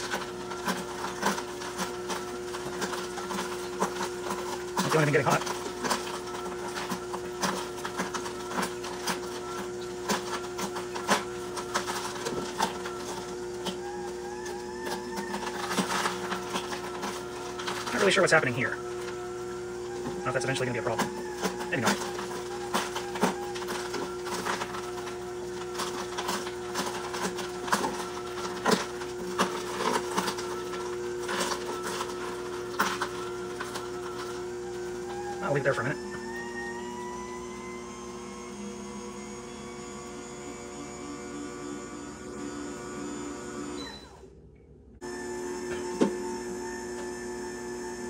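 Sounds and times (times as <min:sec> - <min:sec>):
juicer motor humming: 0:00.0 - 0:48.0.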